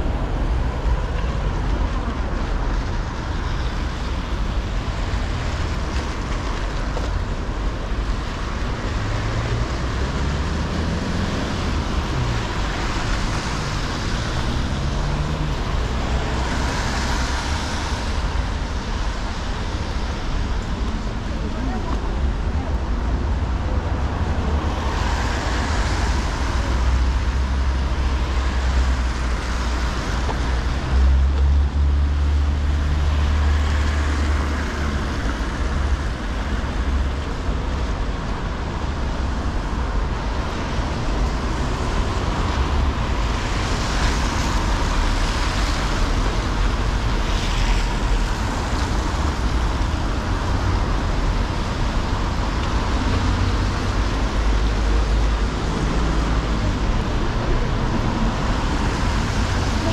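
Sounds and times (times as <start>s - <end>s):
cars passing with tyre hiss: 0.0s - 21.9s, 22.9s - 59.9s
low traffic rumble: 0.0s - 59.9s.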